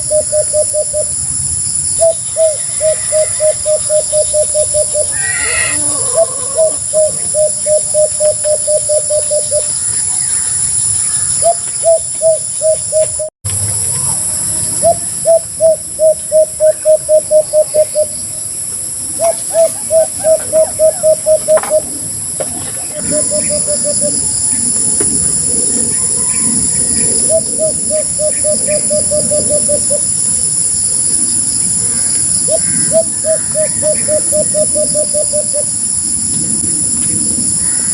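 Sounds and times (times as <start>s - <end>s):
dove hooting calls: 0.0s - 13.3s, 14.7s - 37.9s.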